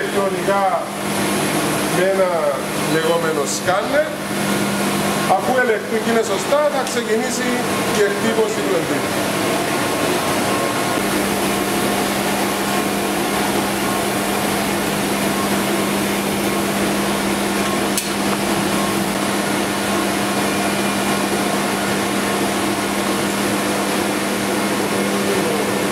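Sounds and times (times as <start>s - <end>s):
print machinery whir and hum: 0.0s - 25.9s.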